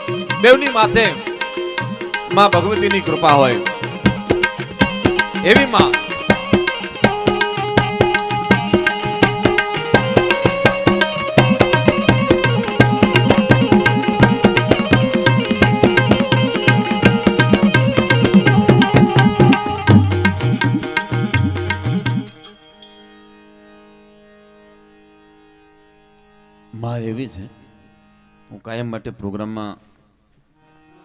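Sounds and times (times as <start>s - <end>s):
instrumental folk melody: 0.0s - 28.6s, 29.9s - 31.0s.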